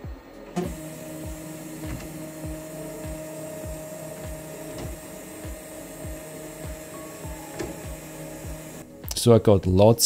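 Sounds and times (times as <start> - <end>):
stepper motors whining: 0.5 - 8.8
motor start click: 0.6 - 8.8.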